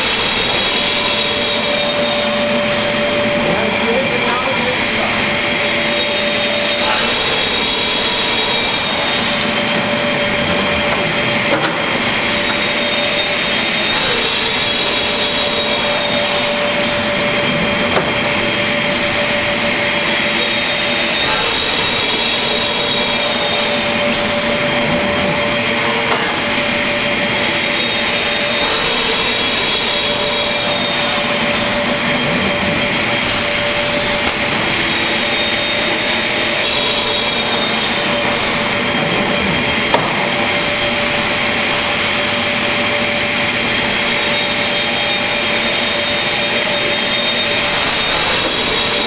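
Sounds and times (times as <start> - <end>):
constant machine hum: 0.0 - 49.0
panel cutting machine whine: 0.0 - 49.0.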